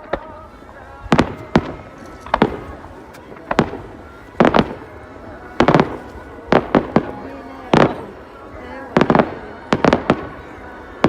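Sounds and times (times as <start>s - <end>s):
fireworks bangs: 0.0s - 8.2s, 8.9s - 11.0s.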